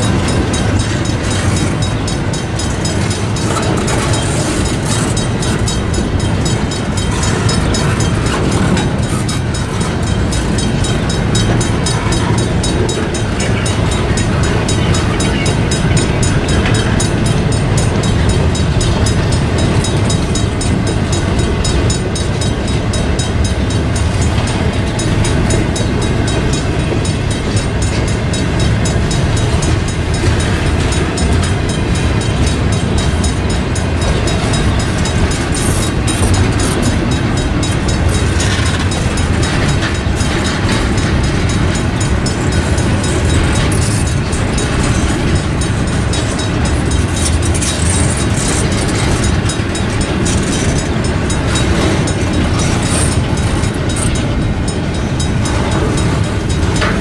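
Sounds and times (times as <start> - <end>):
crossing bell ringing: 0.0 - 57.0
train wheels clattering over rails: 0.0 - 57.0.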